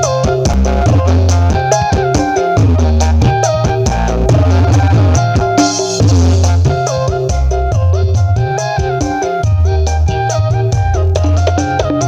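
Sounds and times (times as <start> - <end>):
dance music with heavy bass: 0.0 - 12.0.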